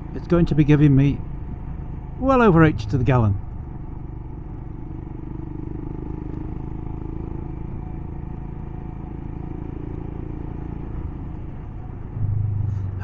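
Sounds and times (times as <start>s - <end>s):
motorcycle engine running: 1.2s - 13.0s.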